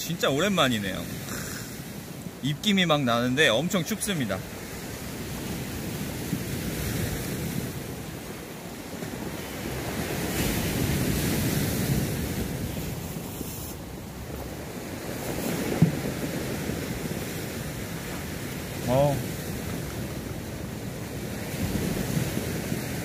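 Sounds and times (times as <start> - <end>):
sea waves washing onto shore: 0.0 - 23.0.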